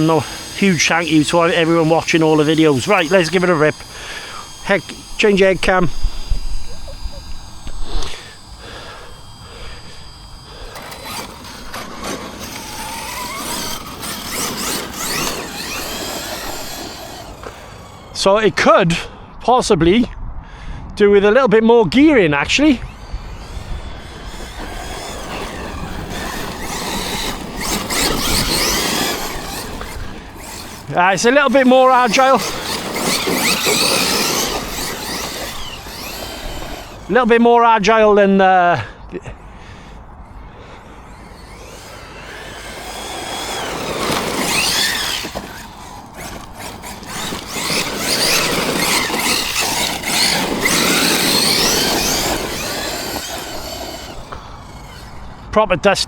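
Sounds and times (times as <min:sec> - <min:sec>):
electric motor whine: 0:00.0 - 0:19.4, 0:21.9 - 0:55.6
tyres on dirt: 0:00.0 - 0:20.0, 0:20.9 - 0:56.0.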